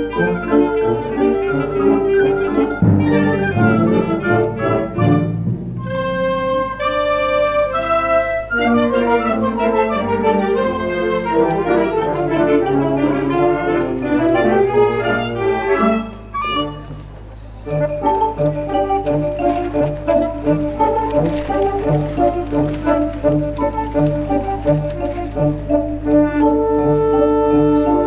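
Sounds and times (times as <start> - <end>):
concert band playing: 0.0 - 28.0.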